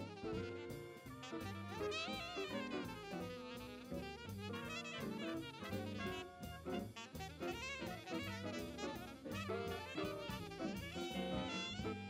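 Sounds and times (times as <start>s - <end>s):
drum kit beat: 0.0s - 12.0s
saxophone and brass melody: 0.0s - 12.0s.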